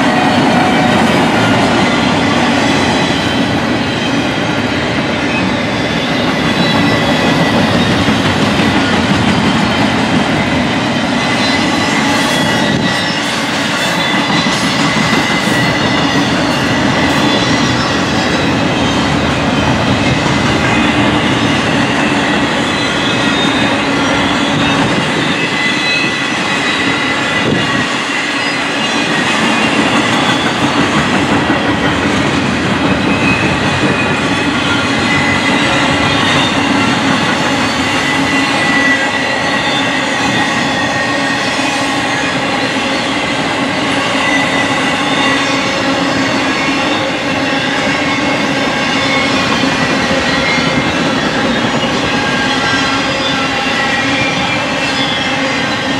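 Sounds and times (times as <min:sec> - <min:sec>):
freight train wheels rumbling: 0:00.0 - 0:55.9
high wheel squeal: 0:00.0 - 0:55.9.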